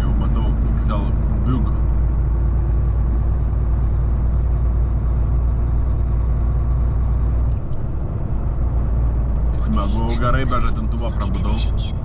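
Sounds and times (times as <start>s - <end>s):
truck engine drone in cab: 0.0s - 12.0s.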